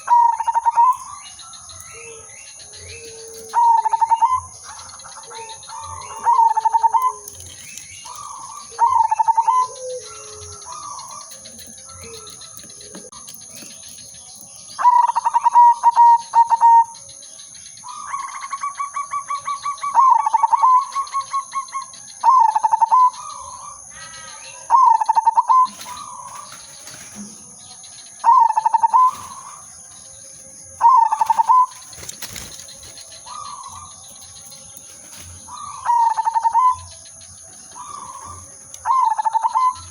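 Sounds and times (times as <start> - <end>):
dove cooing: 0.0 - 17.1, 17.8 - 29.8, 30.4 - 39.9.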